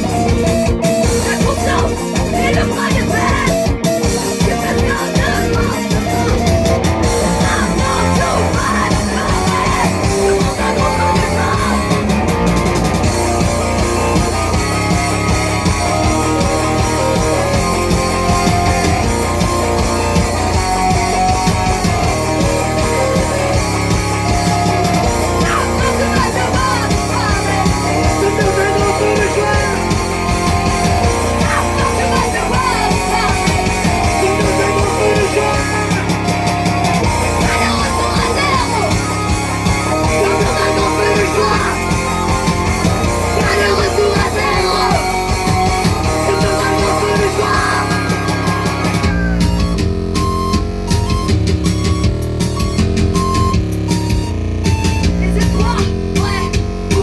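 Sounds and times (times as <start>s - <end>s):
shouted vocals: 0.0s - 49.8s
rock band playing live: 0.0s - 57.0s.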